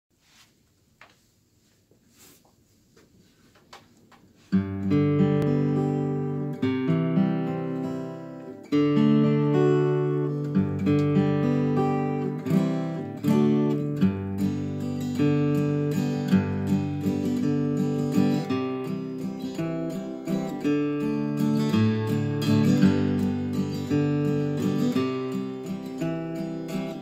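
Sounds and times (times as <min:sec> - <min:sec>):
acoustic guitar chords ringing: 0:04.5 - 0:27.0.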